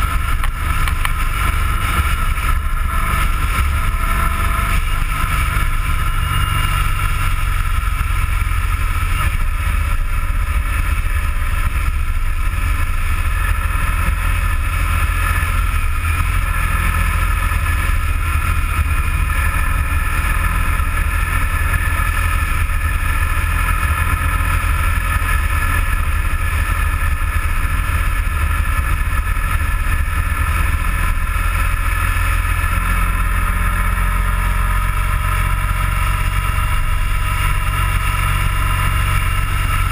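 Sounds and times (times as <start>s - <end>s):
motorcycle engine hum: 0.0s - 39.9s.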